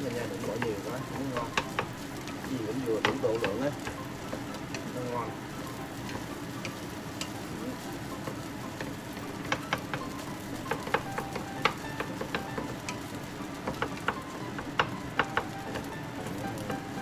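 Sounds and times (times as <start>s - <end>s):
rice sizzling in a pan: 0.0s - 17.0s.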